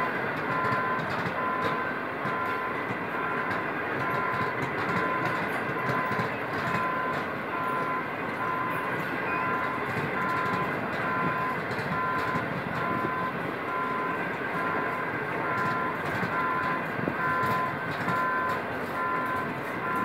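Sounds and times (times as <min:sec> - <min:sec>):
train wheels rumbling on rails: 0:00.0 - 0:20.0
electronic warning beeps: 0:00.4 - 0:20.0.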